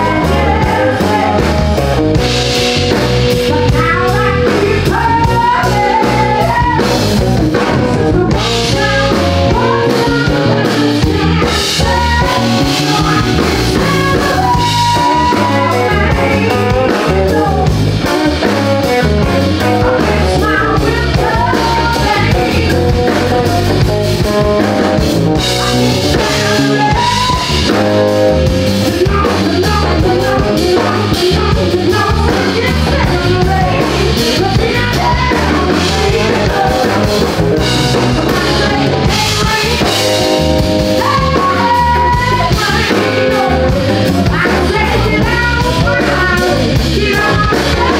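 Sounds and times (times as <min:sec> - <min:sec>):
blues band playing: 0:00.0 - 0:47.9
drum kit: 0:00.0 - 0:47.9
guitar lead melody: 0:00.0 - 0:47.9.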